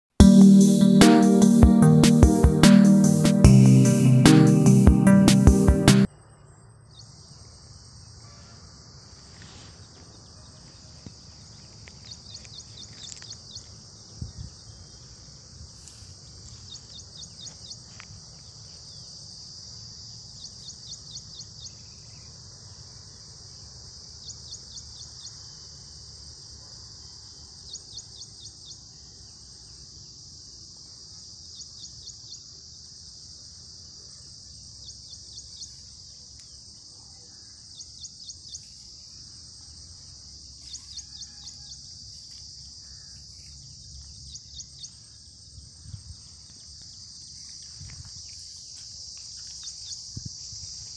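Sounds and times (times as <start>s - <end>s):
quick insect chirps: 6.0s - 50.9s.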